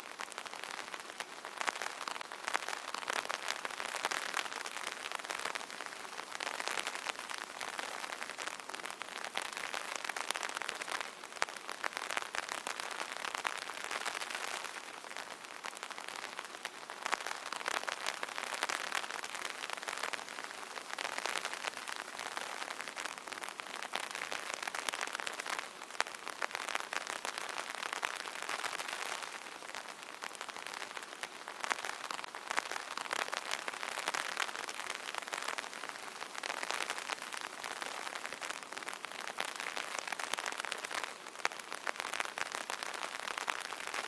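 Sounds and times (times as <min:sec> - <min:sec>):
rain pattering on umbrella: 0:00.0 - 0:44.0.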